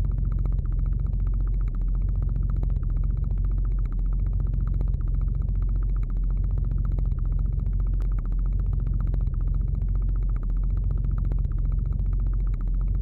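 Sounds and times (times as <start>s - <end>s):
deep electric hum with pulsing buzz: 0.0s - 13.0s.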